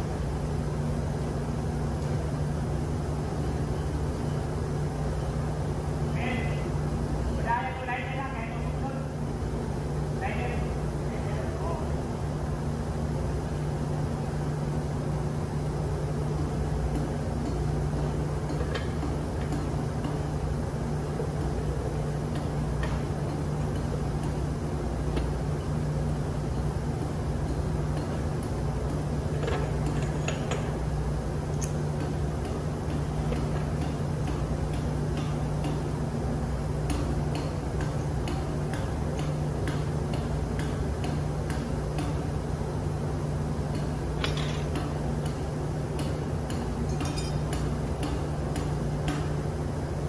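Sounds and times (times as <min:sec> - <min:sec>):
engine room machinery droning: 0:00.0 - 0:50.0.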